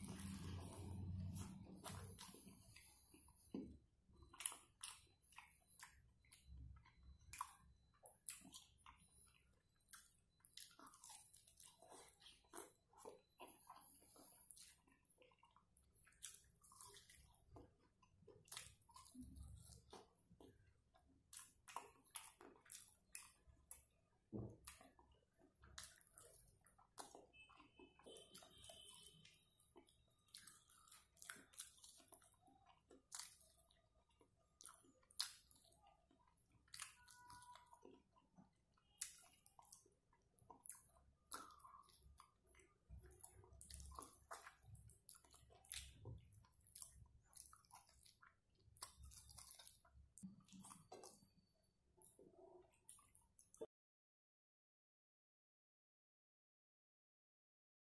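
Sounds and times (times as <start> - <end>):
man chewing and biting meat: 0.0 - 53.6.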